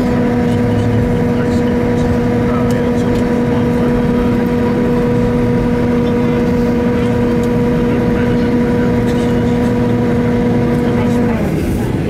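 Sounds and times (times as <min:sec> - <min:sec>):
even hum: 0:00.0 - 0:12.0
jet engines idling: 0:00.0 - 0:12.0.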